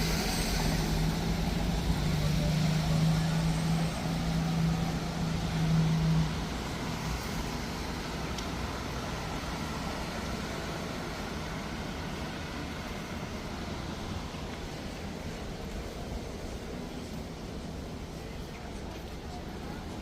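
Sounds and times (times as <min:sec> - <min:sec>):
traffic hiss: 0:00.0 - 0:20.0
vehicle engine hum: 0:00.0 - 0:20.0.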